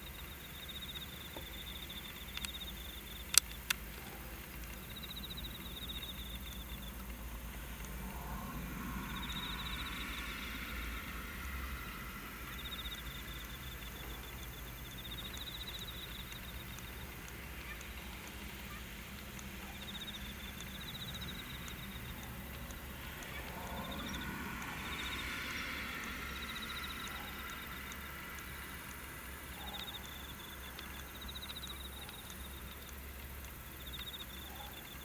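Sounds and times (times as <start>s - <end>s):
insects trilling: 0.0s - 35.0s
steady low hum: 0.0s - 35.0s.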